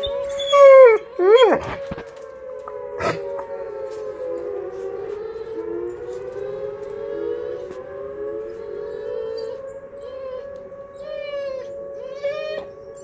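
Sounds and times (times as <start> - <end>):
tornado warning siren wailing: 0.0 - 13.0.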